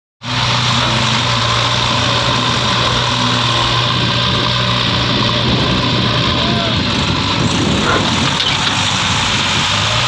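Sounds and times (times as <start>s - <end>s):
diesel engines running under load: 0.2s - 10.0s.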